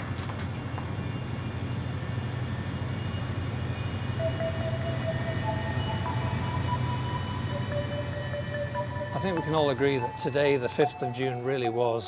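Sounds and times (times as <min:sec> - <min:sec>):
steady low hum: 0:00.1 - 0:12.0
faint steady tone: 0:01.6 - 0:12.0.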